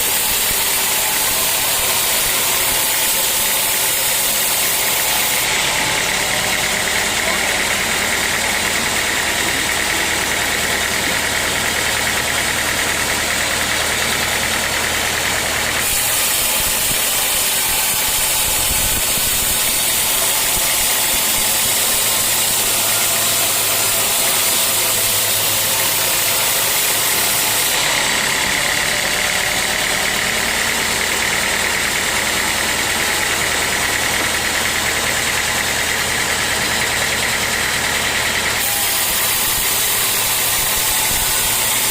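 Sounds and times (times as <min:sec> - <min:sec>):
sawmill machinery humming: 0:00.0 - 0:41.9.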